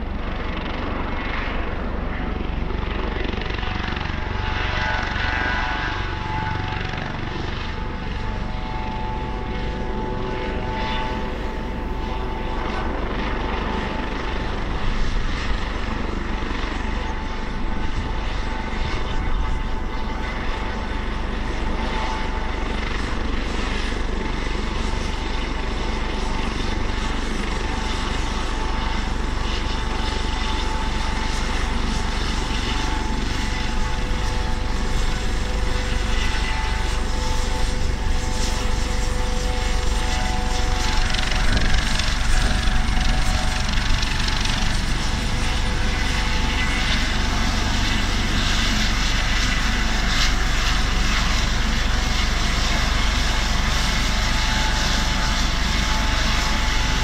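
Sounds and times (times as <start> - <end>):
helicopter rotor rumble: 0.0 - 57.0
turbine whine: 0.0 - 57.0.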